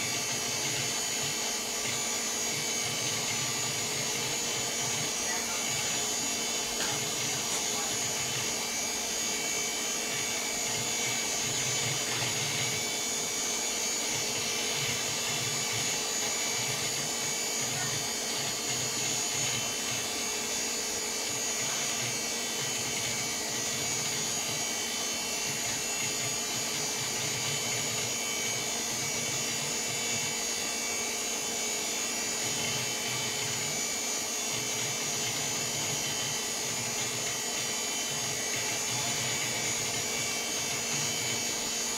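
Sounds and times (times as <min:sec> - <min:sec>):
computer cooling fans whirring: 0:00.0 - 0:41.9.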